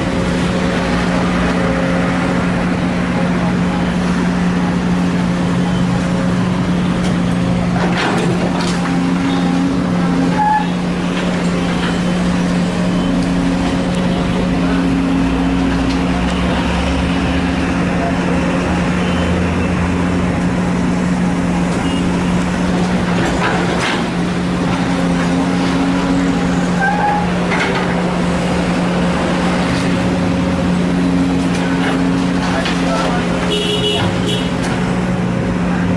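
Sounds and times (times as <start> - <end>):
excavator clattering: 0.0 - 17.0, 20.1 - 35.6
diesel engine droning: 0.0 - 35.9.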